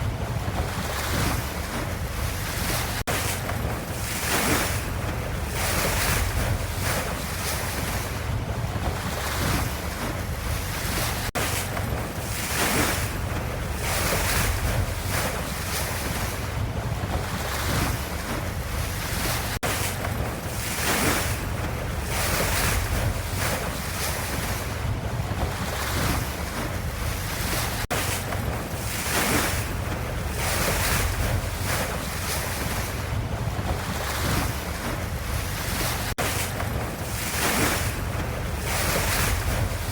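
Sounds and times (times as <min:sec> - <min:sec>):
ocean waves surf: 0:00.0 - 0:39.9.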